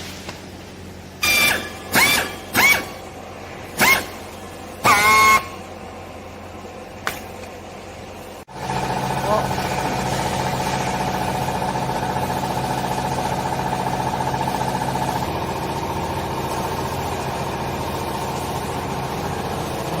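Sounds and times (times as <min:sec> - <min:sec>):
baler motor and pump humming: 0:00.0 - 0:20.0.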